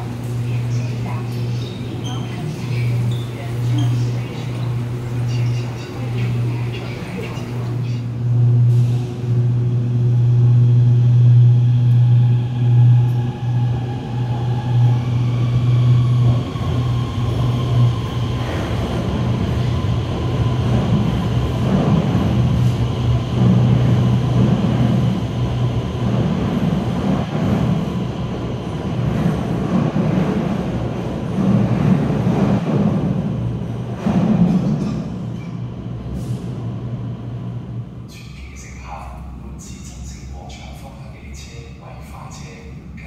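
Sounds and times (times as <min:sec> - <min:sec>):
wheels rumbling on rails: 0:00.0 - 0:38.9
train low hum: 0:00.0 - 0:43.0.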